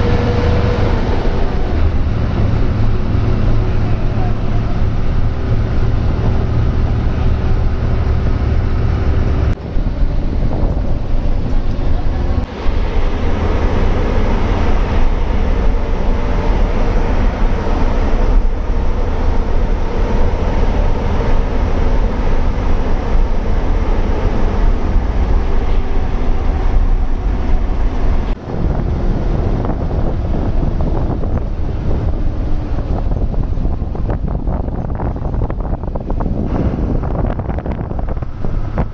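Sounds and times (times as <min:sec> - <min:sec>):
bus engine and road noise: 0:00.0 - 0:38.9
wind buffeting microphone: 0:00.0 - 0:38.9.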